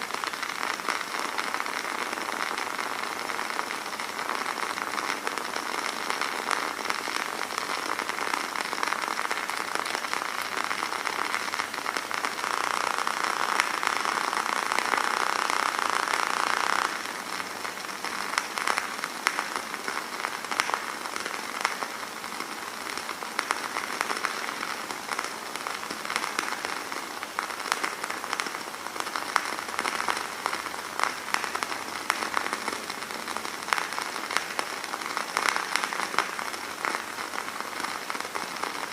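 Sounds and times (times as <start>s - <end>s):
fire hissing and crackling: 0.0s - 38.9s.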